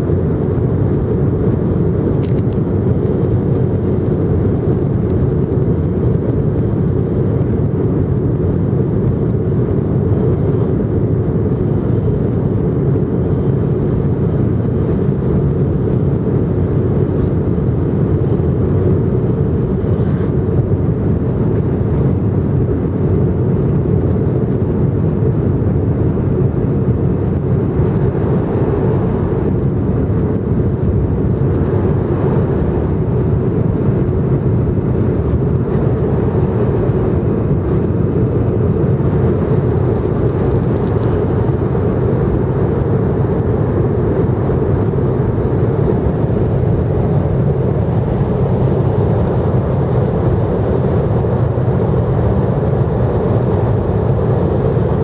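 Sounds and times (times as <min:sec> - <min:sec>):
high-speed train interior rumble: 0:00.0 - 0:55.0.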